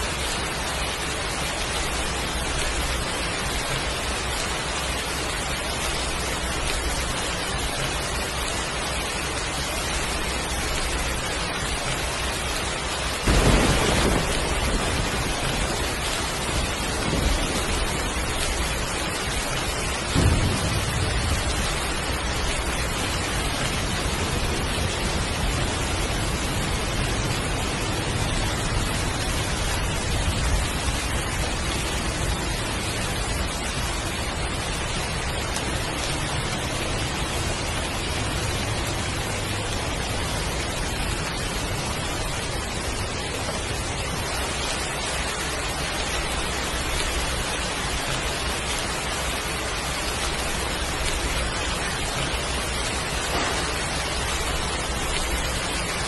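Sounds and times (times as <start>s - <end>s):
heavy rain falling: 0.0s - 56.0s
thunder rumbling: 0.0s - 56.0s.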